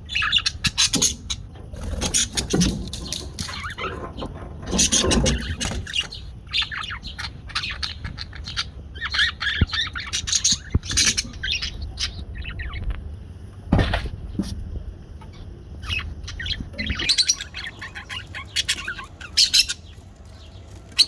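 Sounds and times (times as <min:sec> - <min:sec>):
budgerigar chirping: 0:00.1 - 0:12.9, 0:15.8 - 0:21.0.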